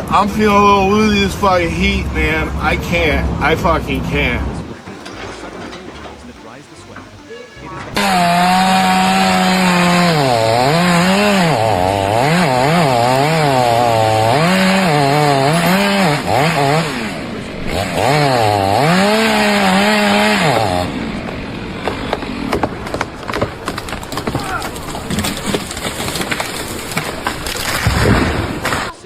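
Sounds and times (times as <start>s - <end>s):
small engine revving: 0.0s - 29.0s.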